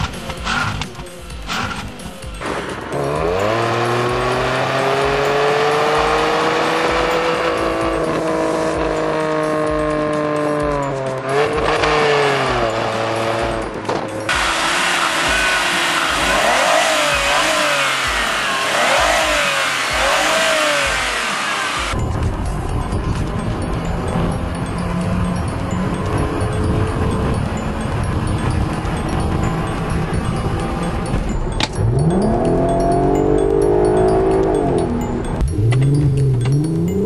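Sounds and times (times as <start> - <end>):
car engine pulling hard: 0.0 - 37.0
car engine revving in blips: 0.0 - 37.0.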